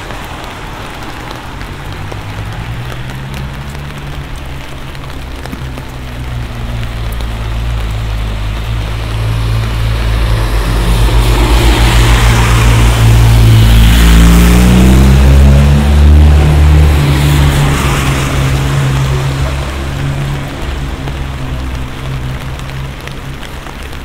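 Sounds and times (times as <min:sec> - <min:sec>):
car passing: 0:00.0 - 0:24.0
tyres hissing on wet road: 0:00.0 - 0:24.0.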